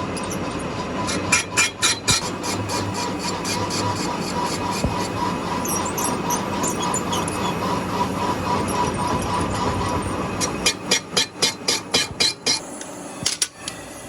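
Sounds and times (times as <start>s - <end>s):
machine whining: 0.0s - 14.0s.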